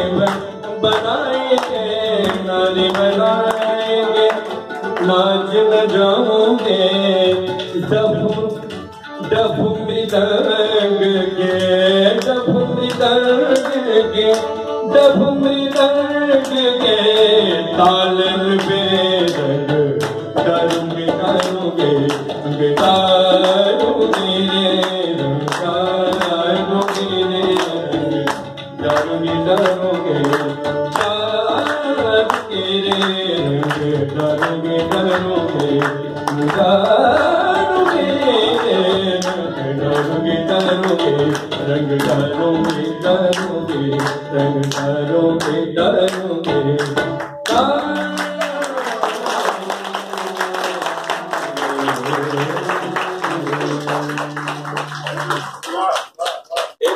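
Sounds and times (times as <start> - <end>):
harmonium: 0.0 - 55.4
person singing: 0.0 - 56.9.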